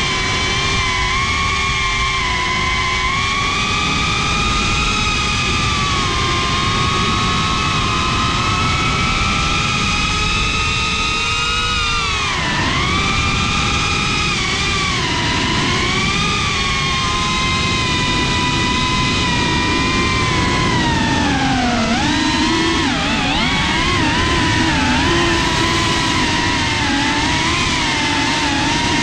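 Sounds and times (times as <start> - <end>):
drone propellers whining: 0.0 - 29.0
wind on microphone: 0.0 - 29.0.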